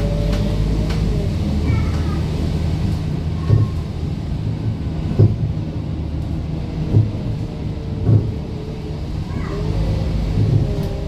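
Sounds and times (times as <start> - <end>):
diesel bus engine droning: 0.0 - 11.0.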